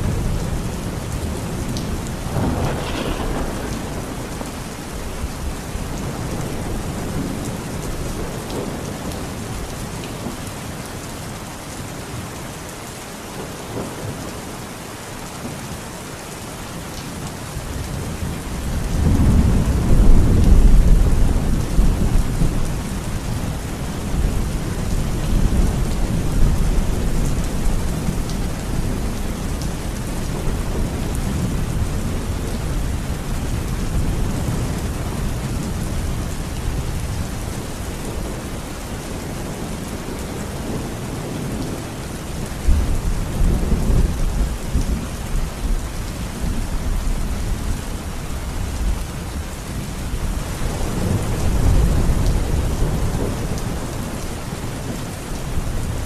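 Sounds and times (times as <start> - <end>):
low thunder rumbling: 0.0 - 9.7, 17.8 - 38.8, 39.4 - 49.2, 49.8 - 56.0
steady rain: 0.0 - 56.0.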